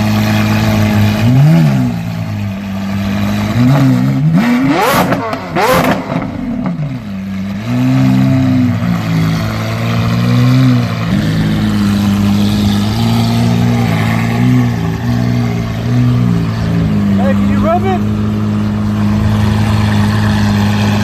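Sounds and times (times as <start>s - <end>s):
car engine at low revs: 0.0s - 21.0s.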